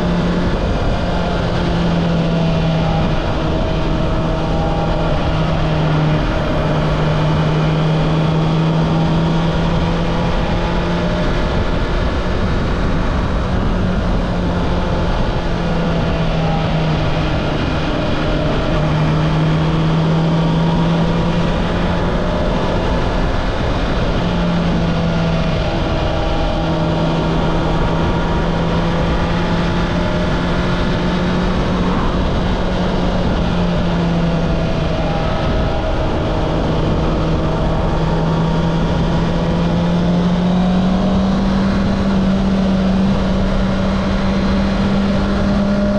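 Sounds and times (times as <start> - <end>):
motorcycle engine cruising: 0.0 - 45.9
wind and road noise: 0.0 - 45.9.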